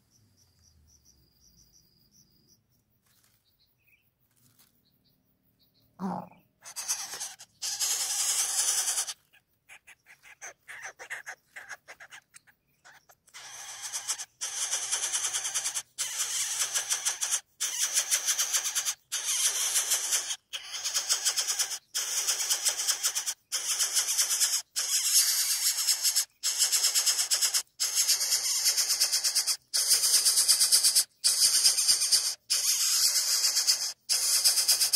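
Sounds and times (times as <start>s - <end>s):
chick rasping begging calls: 6.0s - 30.2s, 30.8s - 34.9s.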